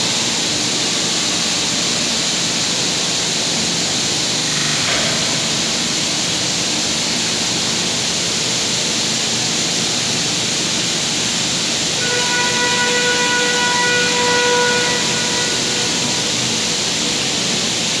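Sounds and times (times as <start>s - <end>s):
cleaning machine hissing: 2.4s - 18.0s.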